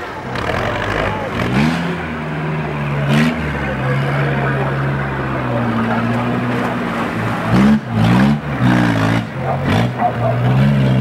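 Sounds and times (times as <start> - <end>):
tractor engine revving: 0.0 - 11.0.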